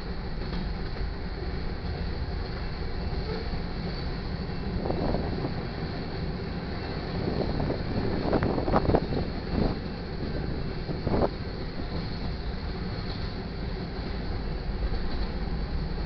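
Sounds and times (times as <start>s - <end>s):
freight train wheels rumbling: 0.0s - 16.0s
train cars clanking: 0.0s - 16.0s.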